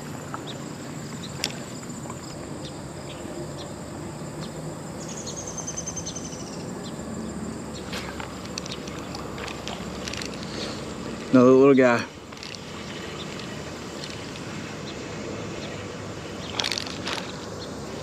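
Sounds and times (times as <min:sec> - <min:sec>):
insects trilling: 0:00.0 - 0:18.0
road traffic rumble: 0:00.0 - 0:18.0.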